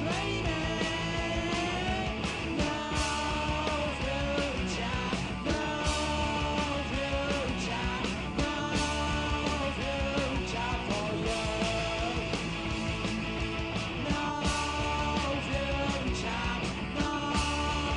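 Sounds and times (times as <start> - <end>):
punk rock band playing live: 0.0 - 17.9.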